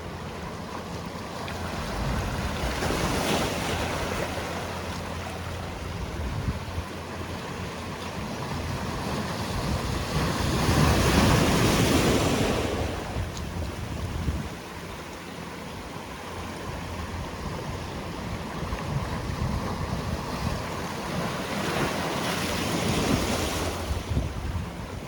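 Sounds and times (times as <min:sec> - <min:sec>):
sea waves on rocky shore: 0:00.0 - 0:25.0.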